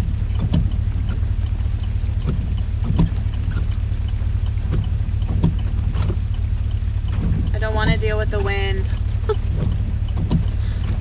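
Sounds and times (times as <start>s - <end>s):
low rumble inside car cabin: 0.0s - 11.0s
light taps and knocks: 0.3s - 8.0s, 8.9s - 11.0s.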